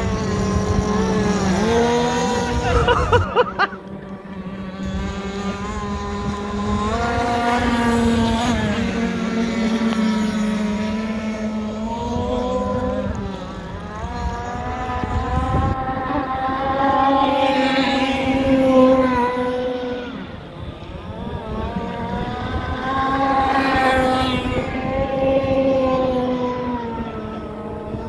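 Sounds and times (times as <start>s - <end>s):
model boat engines running: 0.0s - 28.0s.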